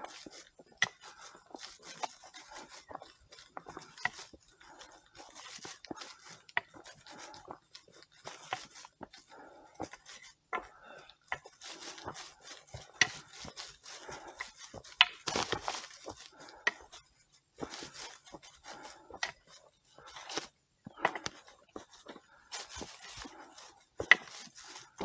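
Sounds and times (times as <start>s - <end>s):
footsteps on forest trail: 0.0s - 25.0s.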